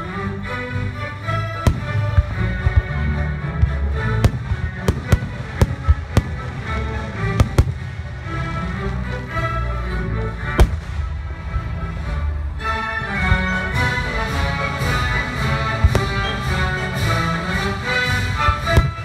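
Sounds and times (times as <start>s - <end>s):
music playing: 0.0s - 19.0s.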